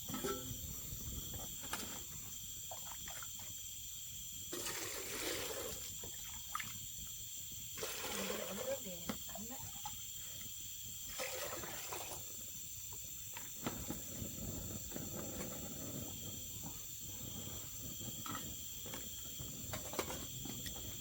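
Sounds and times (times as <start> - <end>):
night insects trilling: 0.0 - 21.0.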